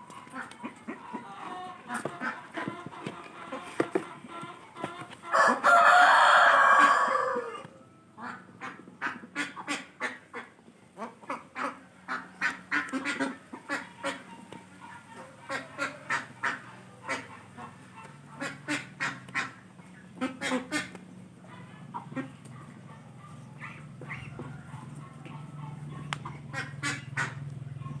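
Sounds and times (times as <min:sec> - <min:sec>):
farm birds calling: 0:00.0 - 0:28.0.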